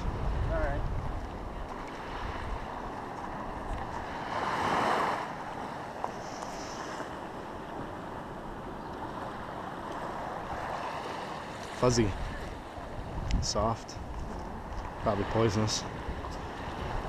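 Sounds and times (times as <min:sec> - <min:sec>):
ocean surf washing ashore: 0:00.0 - 0:17.0
wind on microphone: 0:00.0 - 0:17.0.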